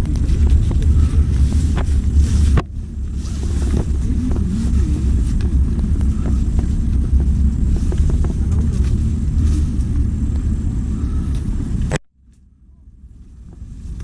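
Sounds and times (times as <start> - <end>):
wind buffeting microphone: 0.0 - 12.0
diesel engine rumbling: 0.0 - 14.0.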